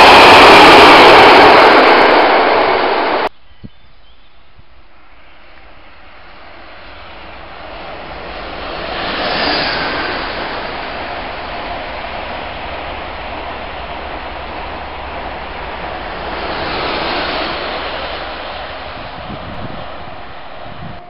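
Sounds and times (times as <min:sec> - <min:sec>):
high-speed train rushing past: 0:00.0 - 0:03.4, 0:04.7 - 0:21.0.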